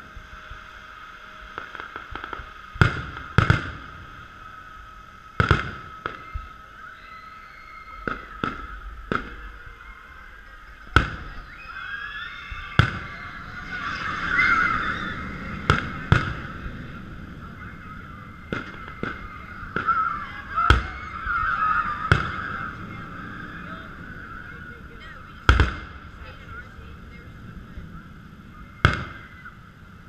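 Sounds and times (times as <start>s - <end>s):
fireworks bursting: 0.0s - 11.8s, 12.4s - 30.0s.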